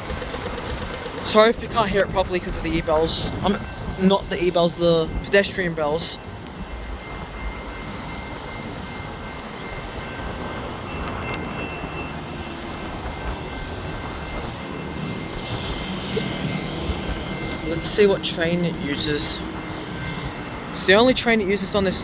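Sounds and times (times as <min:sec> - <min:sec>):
level crossing bells ringing: 0:00.0 - 0:22.0
traffic: 0:00.0 - 0:22.0
wind: 0:00.0 - 0:22.0.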